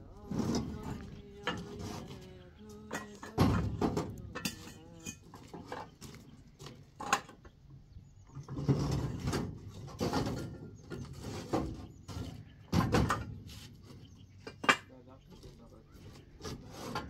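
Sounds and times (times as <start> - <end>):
knocks and scraping: 0.0 - 17.0.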